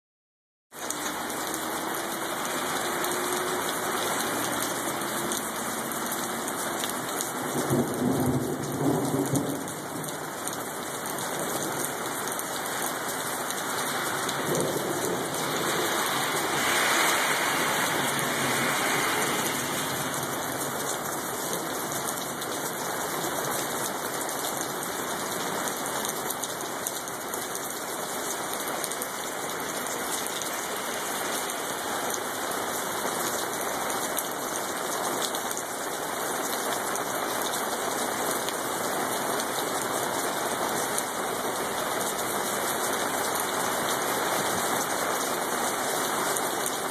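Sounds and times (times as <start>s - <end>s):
rain falling on wet street: 0.7s - 46.9s.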